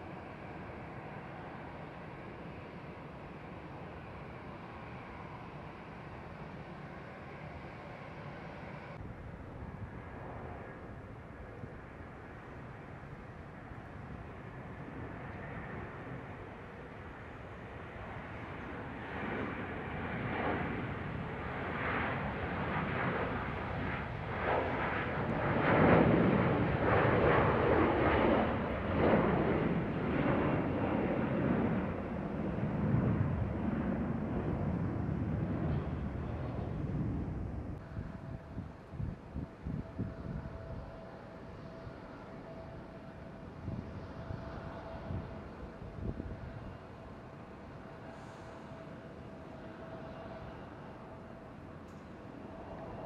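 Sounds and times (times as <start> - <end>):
jet engines at takeoff: 0.0 - 53.0.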